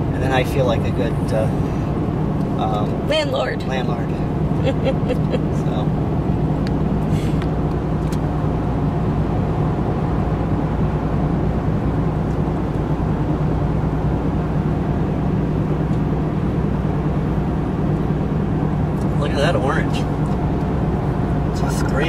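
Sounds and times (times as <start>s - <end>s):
engine hum and road rumble: 0.0s - 22.0s.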